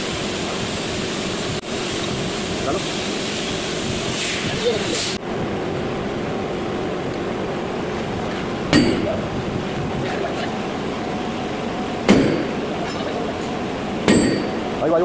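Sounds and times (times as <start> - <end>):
workshop noise: 0.0 - 15.0.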